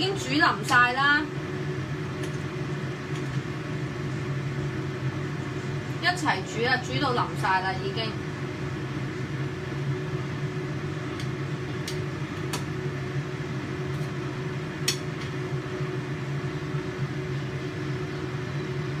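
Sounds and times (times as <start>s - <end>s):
range hood fan humming: 0.0s - 19.0s.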